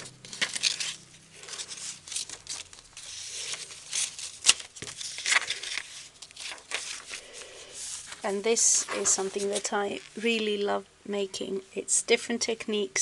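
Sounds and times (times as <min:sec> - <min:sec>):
paper pages rustling: 0:00.0 - 0:10.5.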